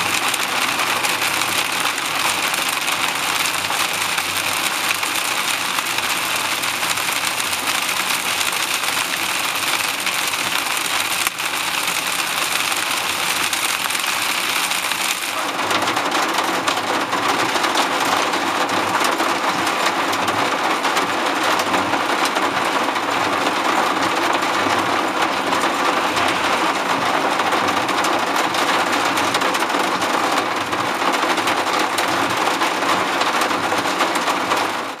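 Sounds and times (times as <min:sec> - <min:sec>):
hail and rain on car roof: 0:00.0 - 0:35.0.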